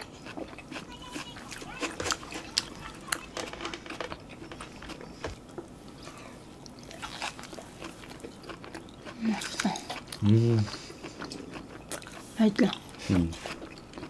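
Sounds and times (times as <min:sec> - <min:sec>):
chewing and lip-smacking: 0:00.0 - 0:14.0.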